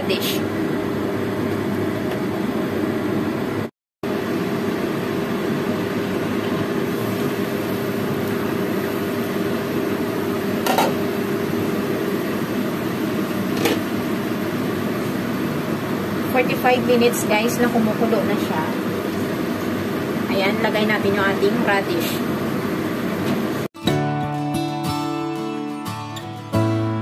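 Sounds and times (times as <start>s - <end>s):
mechanical hum: 0.0s - 23.7s.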